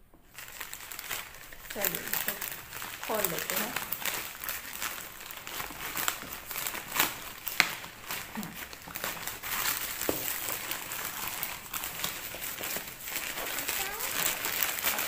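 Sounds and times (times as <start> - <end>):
plastic bag crinkling and tearing: 0.3 - 15.0.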